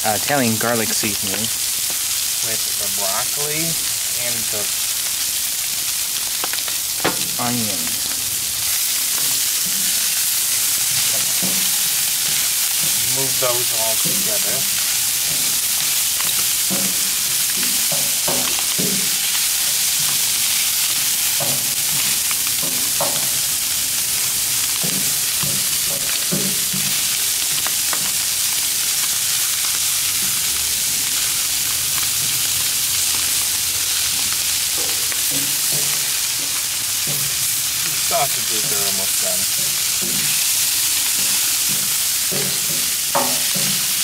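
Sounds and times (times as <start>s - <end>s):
food sizzling on griddle: 0.0s - 44.0s.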